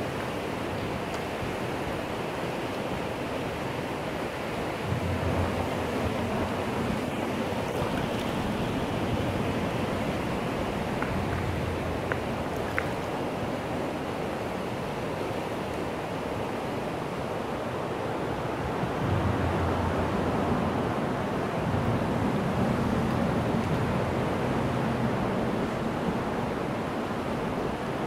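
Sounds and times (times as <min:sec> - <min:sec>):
fast-flowing river rushing: 0:00.0 - 0:28.0
wind rumbling on microphone: 0:00.0 - 0:28.0.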